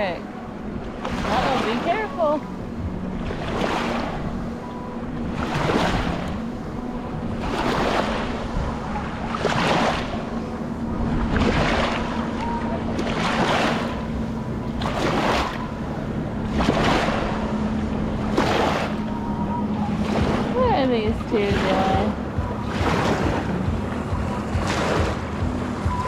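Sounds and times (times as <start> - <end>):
low steady hum: 0.0 - 26.0
small waves washing ashore: 0.0 - 26.0.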